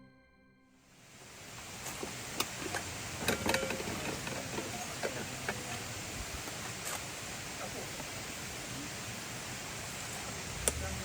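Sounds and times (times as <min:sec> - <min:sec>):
steady background hiss: 0:00.7 - 0:11.0.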